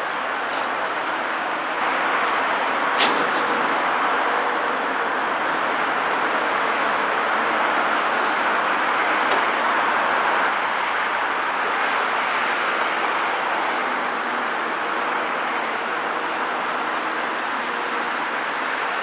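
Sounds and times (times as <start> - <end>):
excavator running: 0.0 - 19.0.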